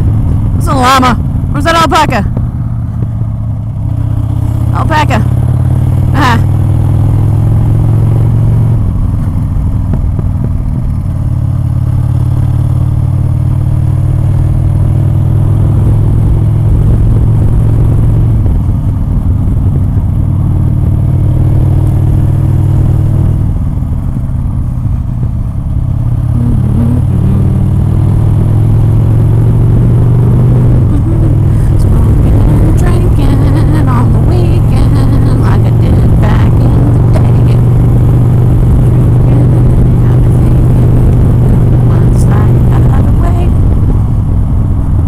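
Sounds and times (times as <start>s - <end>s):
motorcycle engine running: 0.0s - 45.0s
wind rumble on microphone: 7.5s - 45.0s.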